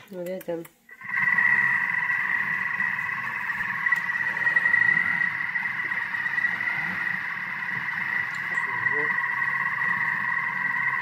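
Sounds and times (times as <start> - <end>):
food processor whine and hum: 0.9 - 11.0.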